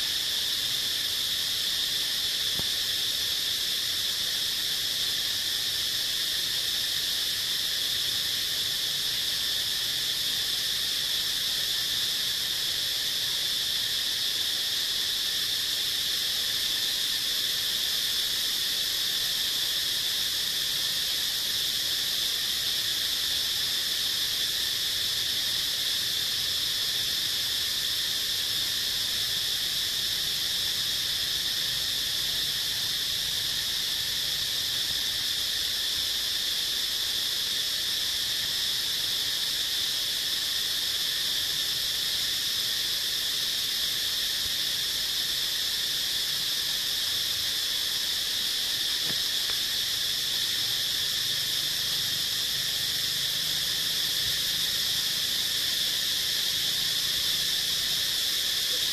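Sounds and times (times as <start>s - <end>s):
high-pitched insect drone: 0.0s - 58.9s.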